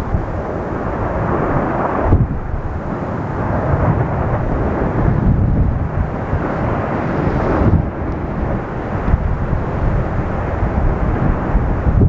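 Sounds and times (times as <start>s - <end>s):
lava fountain rushing rumble: 0.0s - 12.0s.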